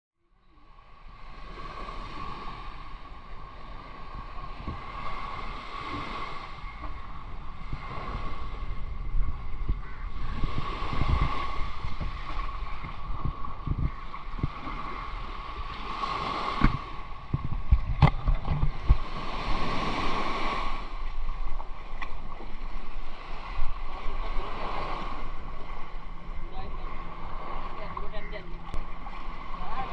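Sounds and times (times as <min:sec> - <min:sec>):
small waves washing up beach: 0:00.3 - 0:29.9
wind buffeting microphone: 0:01.3 - 0:29.9.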